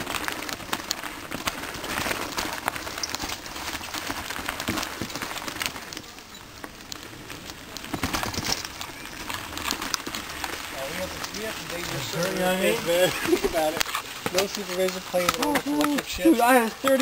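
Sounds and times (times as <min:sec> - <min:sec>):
bike clicking and rattling: 0:00.0 - 0:17.0
bike tyres crackling on gravel: 0:00.0 - 0:17.0.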